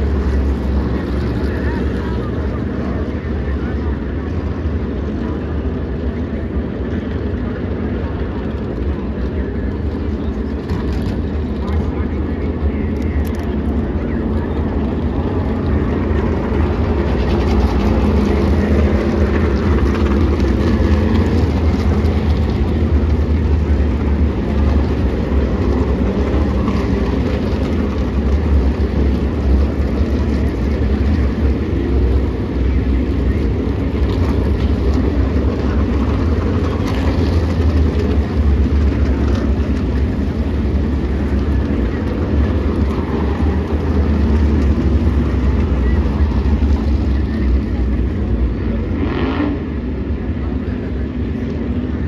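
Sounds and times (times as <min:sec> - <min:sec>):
race car engines rumbling: 0:00.0 - 0:52.0.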